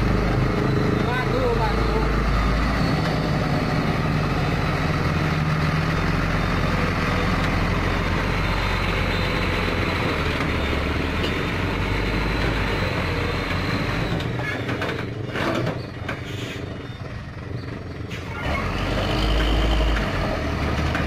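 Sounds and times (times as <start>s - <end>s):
truck diesel engine at low revs: 0.0s - 21.0s.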